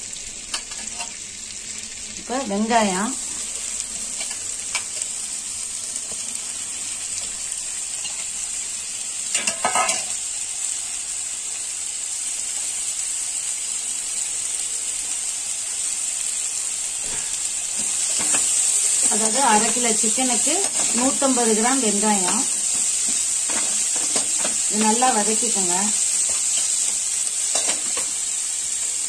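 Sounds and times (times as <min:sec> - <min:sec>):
onions sizzling in a pan: 0:00.0 - 0:29.0.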